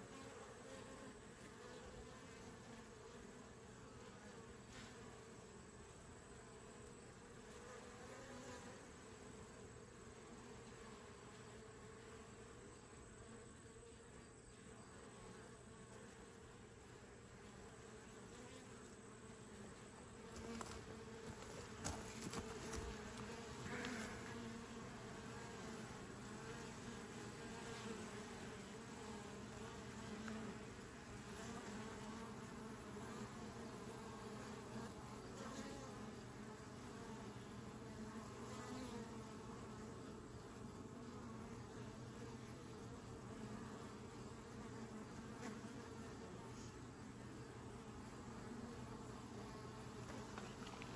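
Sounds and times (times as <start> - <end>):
honeybees buzzing: 0.0 - 50.9.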